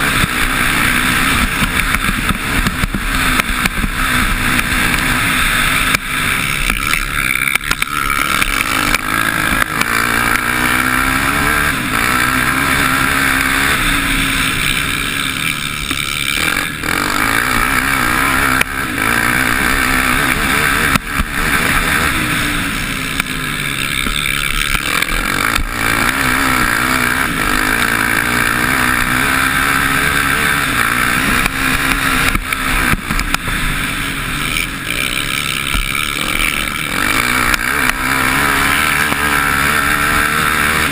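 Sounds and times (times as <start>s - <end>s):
constant rush of noise: 0.0s - 40.9s
motorcycle engine revving: 0.0s - 40.9s.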